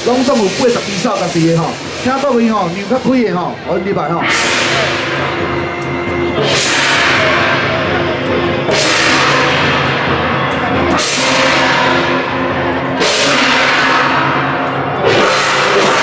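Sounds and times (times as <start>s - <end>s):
brass horns blowing low notes: 0.0s - 16.0s
gong or cymbal crash: 0.0s - 16.0s.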